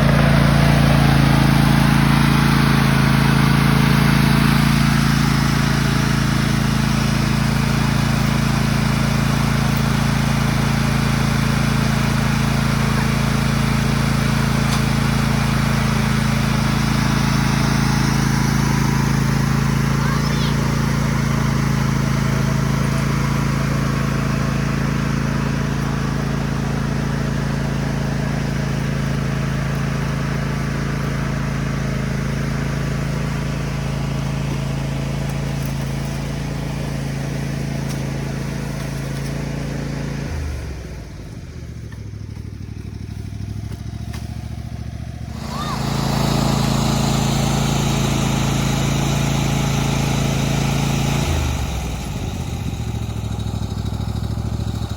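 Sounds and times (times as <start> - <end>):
lawn tractor engine running: 0.0 - 54.9.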